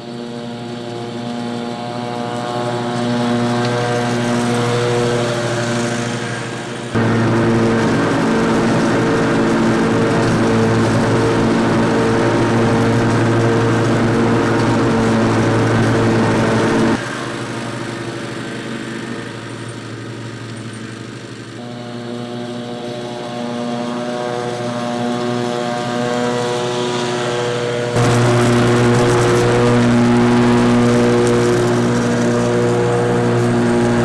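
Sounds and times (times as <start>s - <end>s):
riding lawn mower engine running: 0.3s - 20.5s, 21.1s - 34.0s.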